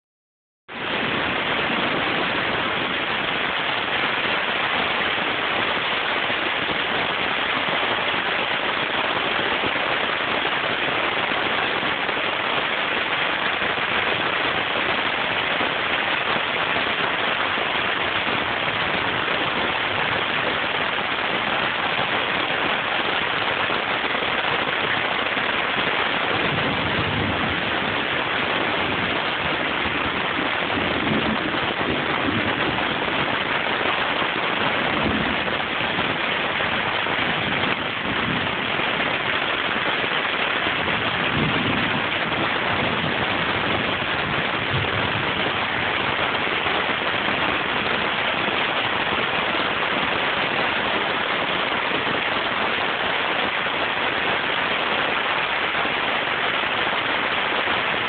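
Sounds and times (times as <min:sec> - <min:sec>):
rain falling on lawn and trees: 0:00.7 - 0:58.0.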